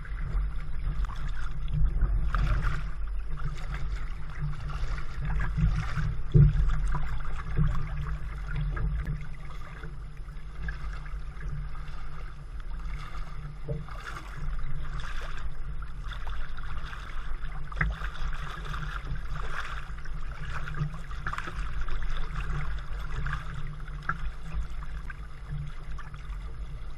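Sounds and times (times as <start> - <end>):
steady low rumble: 0.0 - 26.9
water splashing and lapping: 0.0 - 26.9.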